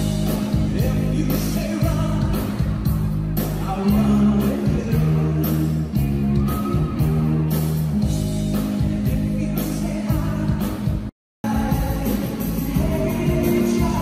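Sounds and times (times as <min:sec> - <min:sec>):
man singing lead vocals: 0:00.0 - 0:07.5, 0:08.5 - 0:14.0
rock band playing: 0:00.0 - 0:14.0.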